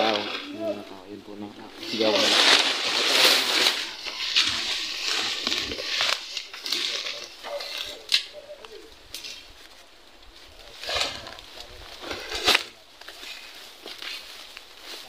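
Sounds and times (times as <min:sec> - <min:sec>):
leaves and brush rustling: 0:00.0 - 0:15.0.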